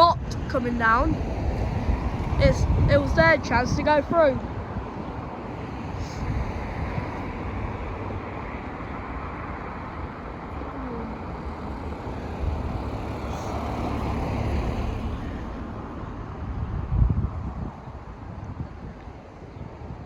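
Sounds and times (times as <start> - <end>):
road traffic passing: 0.0 - 20.0
wind rumbling on microphone: 0.0 - 20.0.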